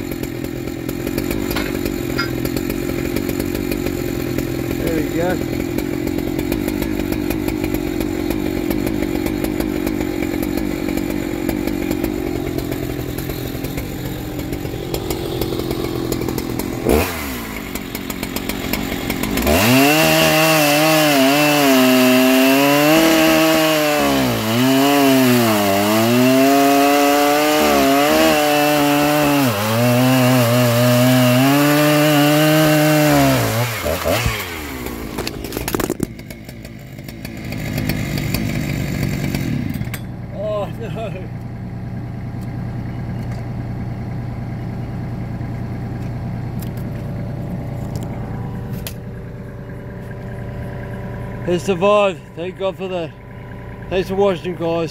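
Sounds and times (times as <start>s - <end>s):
chainsaw cutting log: 0.0s - 42.7s, 45.1s - 54.9s.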